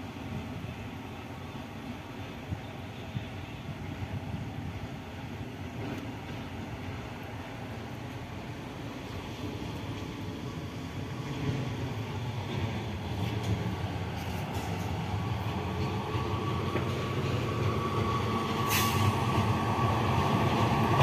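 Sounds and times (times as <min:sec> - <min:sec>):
freight train rumbling on rails: 0:00.0 - 0:21.0.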